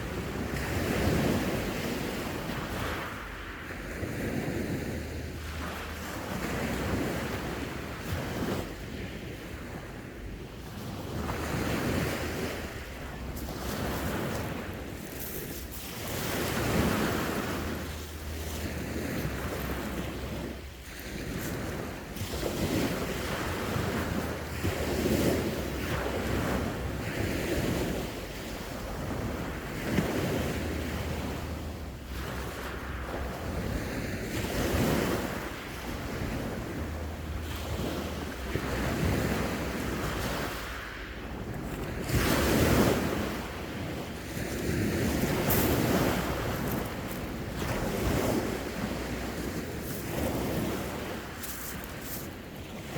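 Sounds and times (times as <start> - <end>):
sea waves breaking: 0.0 - 52.9
wind buffeting microphone: 0.0 - 52.9.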